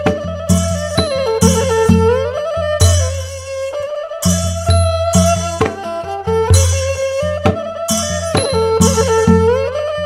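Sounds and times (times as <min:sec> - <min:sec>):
drum beats: 0:00.0 - 0:10.0
fiddle melody: 0:00.0 - 0:10.0.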